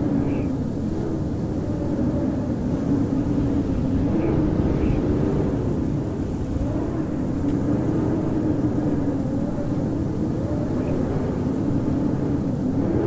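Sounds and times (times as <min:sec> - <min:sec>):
howling blizzard wind: 0:00.0 - 0:13.0.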